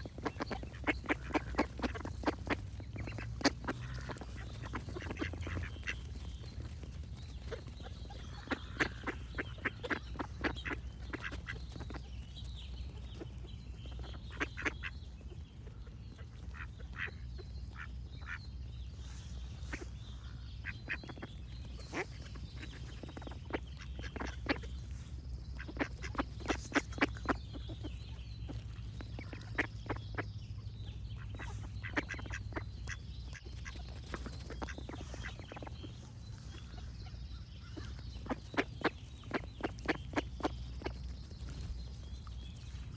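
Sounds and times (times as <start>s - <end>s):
ducks quacking: 0.0s - 42.9s
faint birdsong: 0.0s - 42.9s
steady low rumble: 0.0s - 42.9s.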